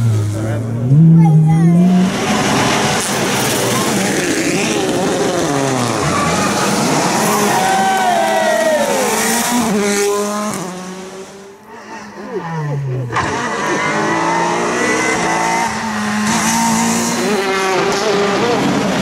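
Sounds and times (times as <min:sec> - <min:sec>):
rally car engine revving: 0:00.0 - 0:19.0
rally car shifting up: 0:00.0 - 0:19.0.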